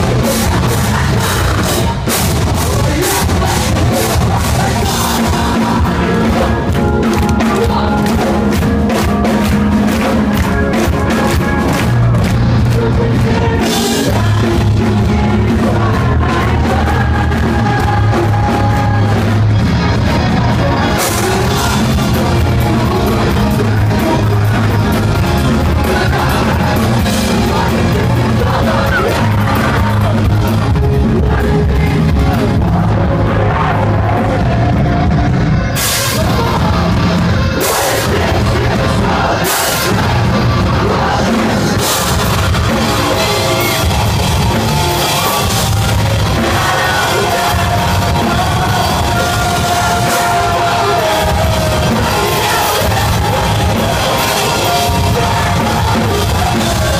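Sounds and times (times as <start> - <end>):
metalcore band playing live: 0.0 - 56.9
sung and yelled lead vocal: 0.0 - 56.9.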